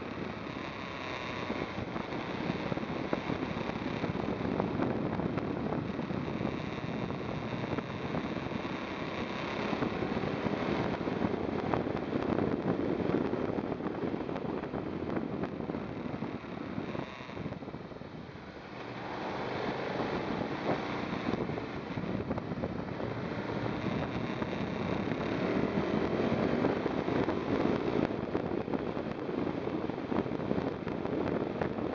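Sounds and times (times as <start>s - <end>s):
motorcycle engine running: 0.0s - 31.9s
wind buffeting microphone: 0.0s - 31.9s.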